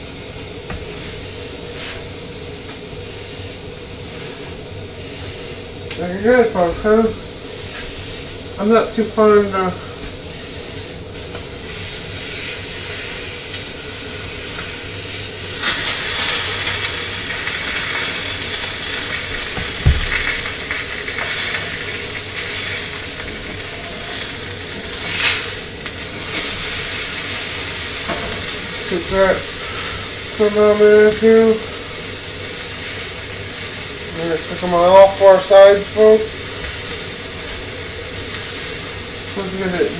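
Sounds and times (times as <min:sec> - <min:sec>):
steak sizzling in a pan: 0:00.0 - 0:39.9.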